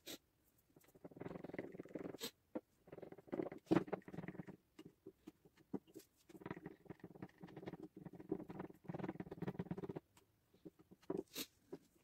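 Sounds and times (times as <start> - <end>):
wooden stick stirring resin in glass: 0.6 - 12.0.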